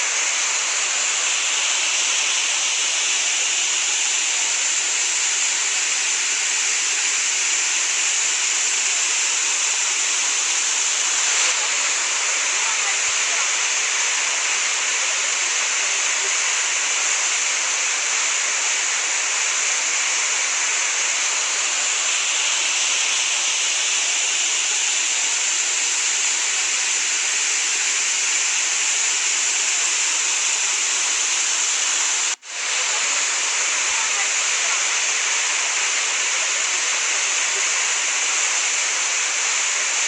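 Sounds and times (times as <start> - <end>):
waterfall roaring: 0.0 - 40.0.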